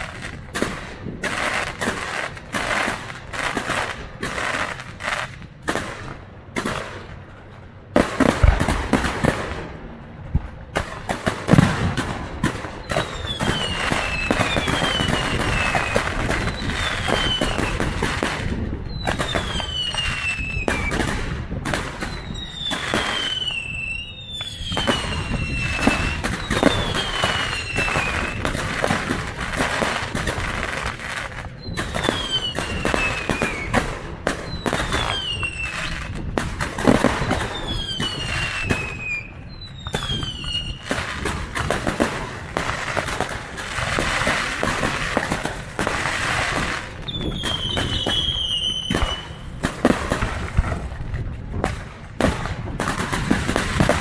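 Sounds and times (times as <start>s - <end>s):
whistling fireworks falling in pitch: 0.0s - 7.2s, 10.6s - 54.0s
firework bangs and crackling: 0.0s - 54.0s.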